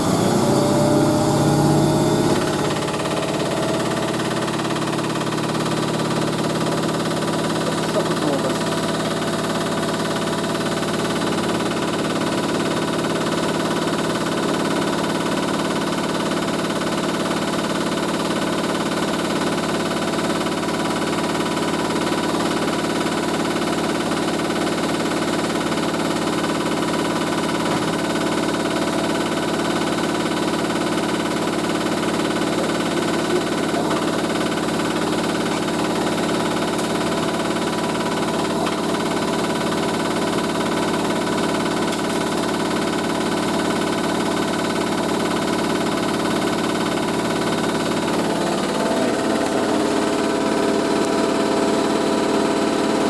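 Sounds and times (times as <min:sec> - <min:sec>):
washing machine spin cycle: 0:00.0 - 0:53.0.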